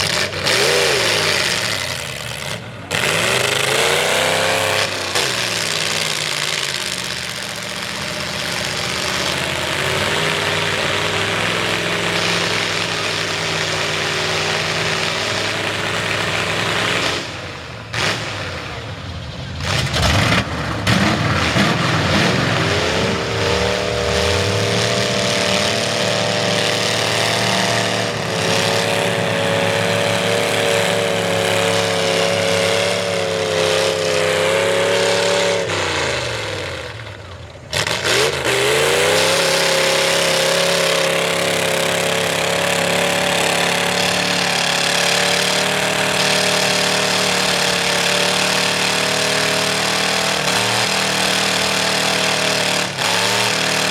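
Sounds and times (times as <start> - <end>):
truck engine revving: 0.0 - 53.9.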